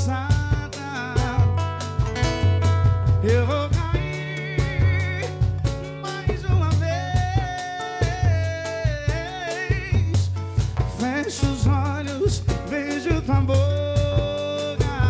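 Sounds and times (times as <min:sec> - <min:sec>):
person singing: 0:00.0 - 0:01.8, 0:03.2 - 0:10.4, 0:11.0 - 0:15.0
drum kit and bass: 0:00.0 - 0:15.0.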